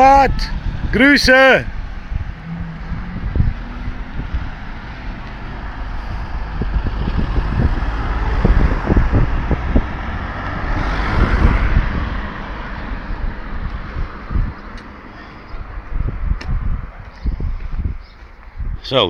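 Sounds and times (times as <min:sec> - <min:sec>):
wind on microphone: 0:00.0 - 0:19.0
vehicle pulling away: 0:00.4 - 0:18.4.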